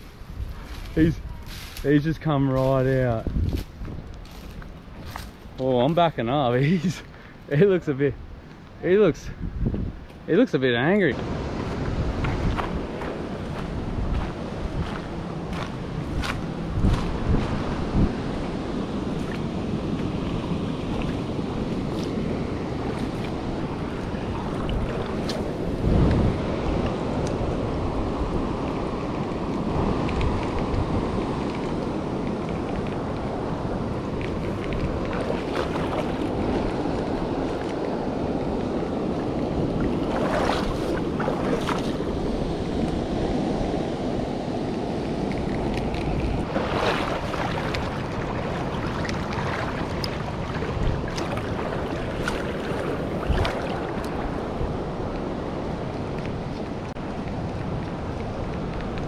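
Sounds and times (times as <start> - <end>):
wind buffeting microphone: 0.0 - 7.0, 7.6 - 59.0
river water rushing: 11.1 - 59.0.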